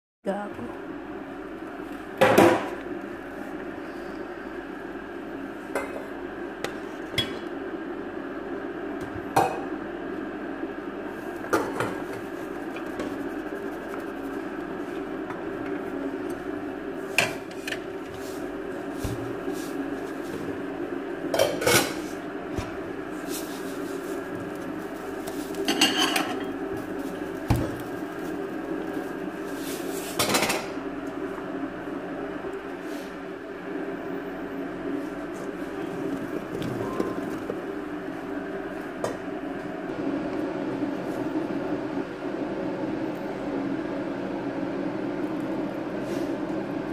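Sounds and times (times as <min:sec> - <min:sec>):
steady low hum: 0:00.2 - 0:46.9.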